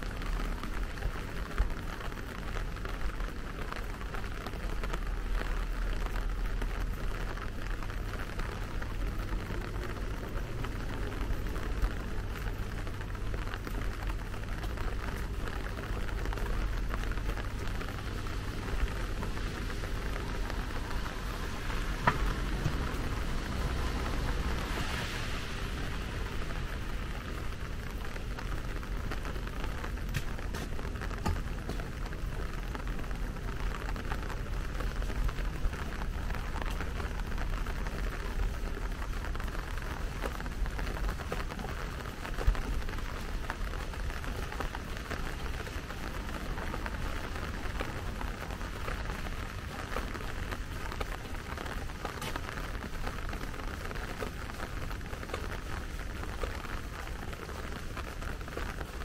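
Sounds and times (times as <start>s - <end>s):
raindrops ticking: 0.0s - 59.0s
steady rain falling: 0.0s - 59.0s.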